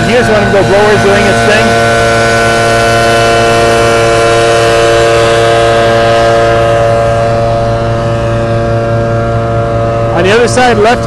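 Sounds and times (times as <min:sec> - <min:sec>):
debris blower whining: 0:00.0 - 0:11.0.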